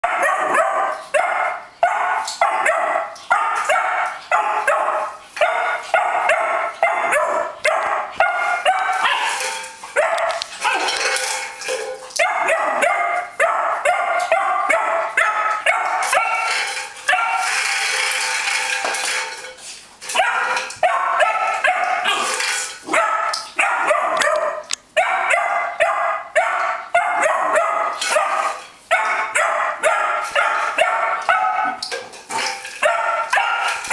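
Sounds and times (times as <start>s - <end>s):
dog barking in high yaps: 0.0s - 11.1s, 11.9s - 17.7s, 20.1s - 31.8s, 32.7s - 33.9s.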